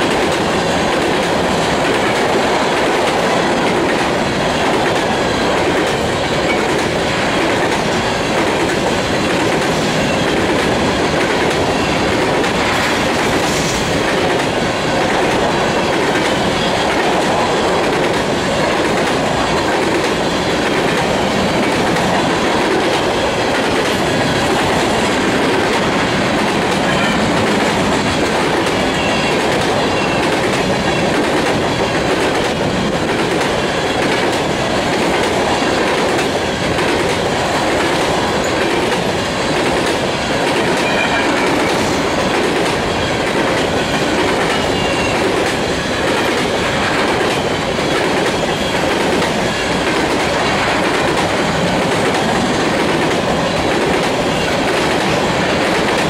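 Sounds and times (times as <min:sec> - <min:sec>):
steel train wheels clattering on rails: 0:00.0 - 0:56.0.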